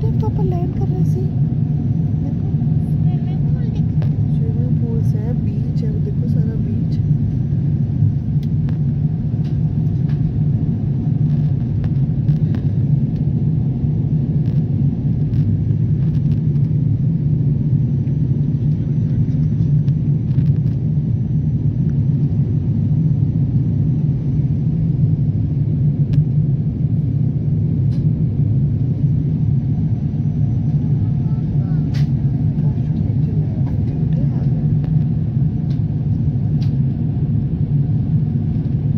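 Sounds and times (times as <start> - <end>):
jet airliner cabin rumble: 0.0 - 38.9.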